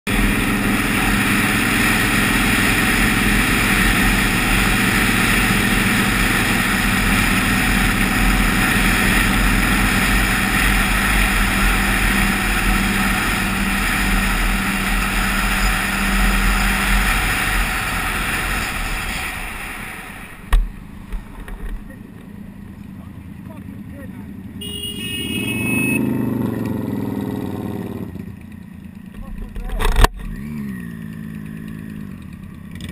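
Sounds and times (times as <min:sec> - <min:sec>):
motorcycle engine cruising: 0:00.1 - 0:32.9.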